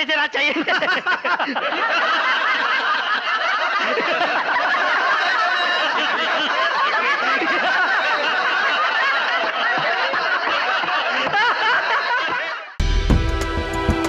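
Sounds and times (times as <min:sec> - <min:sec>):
crowd laughing: 0:00.2 - 0:12.8.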